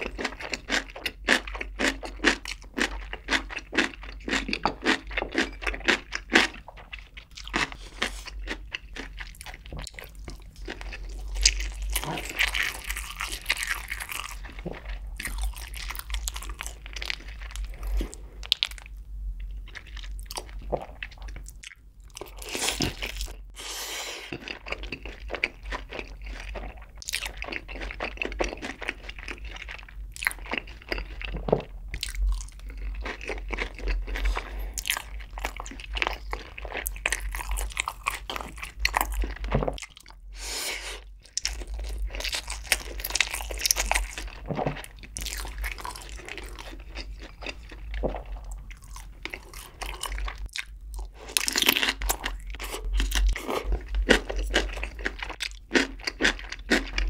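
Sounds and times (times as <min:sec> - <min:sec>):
crunching and chewing food: 0:00.0 - 0:40.4, 0:41.0 - 0:57.0.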